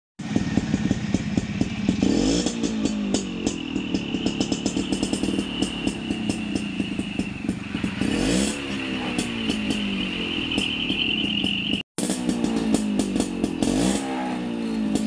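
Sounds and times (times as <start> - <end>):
two-stroke motorcycle engine revving: 0.2 - 15.0.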